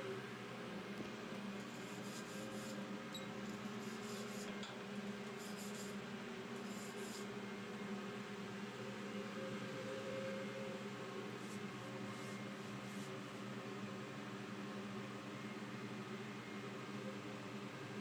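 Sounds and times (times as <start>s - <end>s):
engine room machinery hum: 0.0s - 18.0s.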